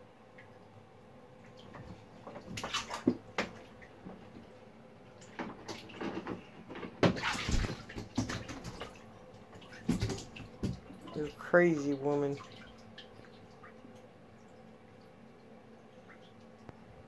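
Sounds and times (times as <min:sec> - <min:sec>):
water splashing in bathtub: 0:01.4 - 0:04.5, 0:05.1 - 0:16.9.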